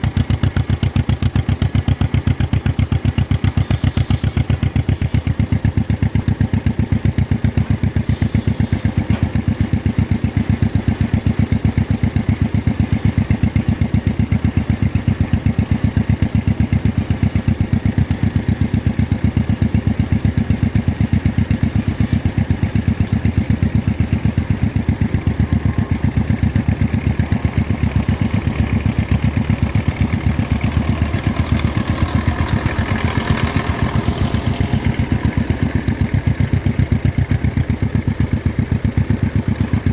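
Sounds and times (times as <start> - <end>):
two-cylinder tractor engine putting: 0.0 - 39.9.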